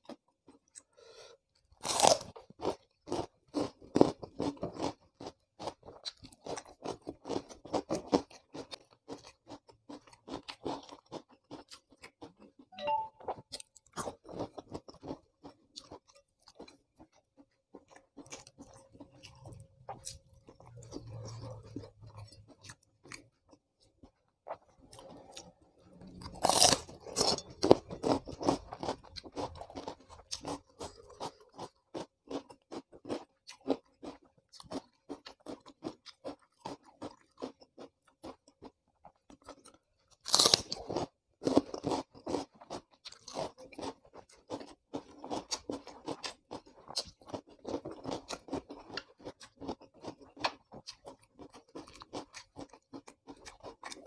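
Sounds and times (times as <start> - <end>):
rapid crunchy chewing: 0.0 - 12.7, 13.8 - 54.0
crunching bites of vegetables: 1.7 - 12.7, 13.8 - 54.0.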